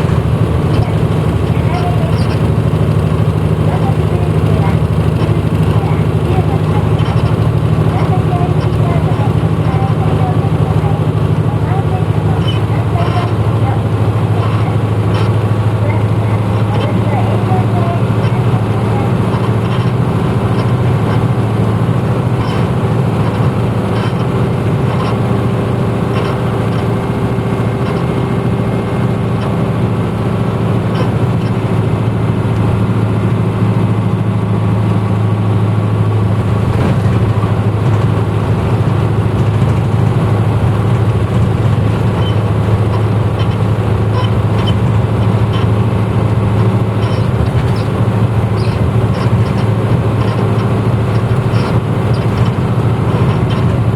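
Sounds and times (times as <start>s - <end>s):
bus diesel engine running: 0.0s - 53.9s
rattles and clicks in bus: 0.0s - 53.9s.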